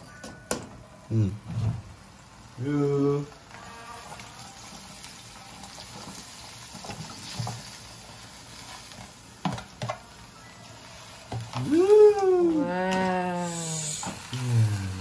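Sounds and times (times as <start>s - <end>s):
stir-fry sizzling in a pan: 0.0s - 15.0s.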